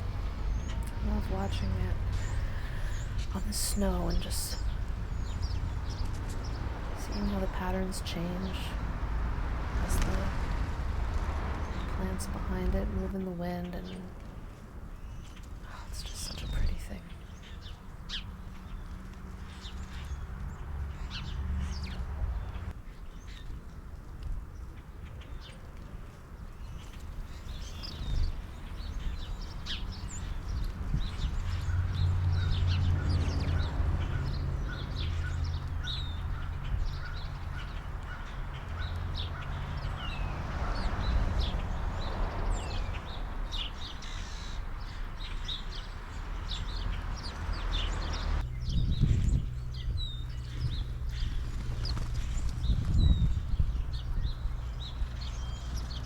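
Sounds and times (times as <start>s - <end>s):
small birds chirping: 0.0s - 23.8s, 24.5s - 56.0s
wind rumble on microphone: 0.0s - 56.0s.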